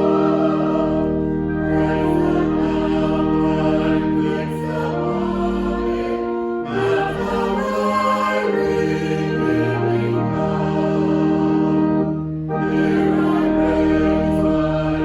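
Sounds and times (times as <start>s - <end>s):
choir singing sacred music: 0.0s - 15.0s.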